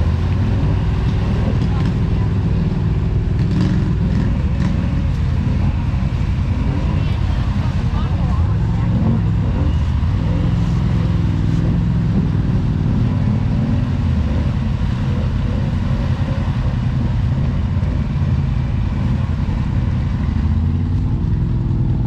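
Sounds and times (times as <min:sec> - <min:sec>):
atv engines droning: 0:00.0 - 0:22.0.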